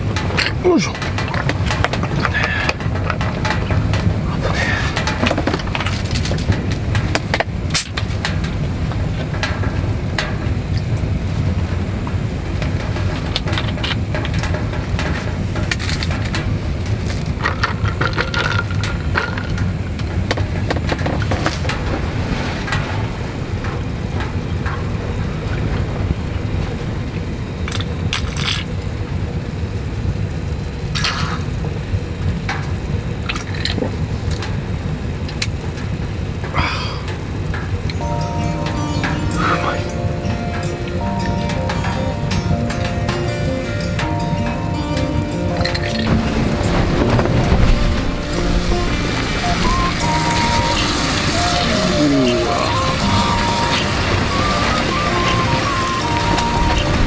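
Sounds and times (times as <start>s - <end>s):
low rumble: 0.0s - 35.2s, 37.2s - 57.0s
firewood crackling in stove: 0.0s - 57.0s.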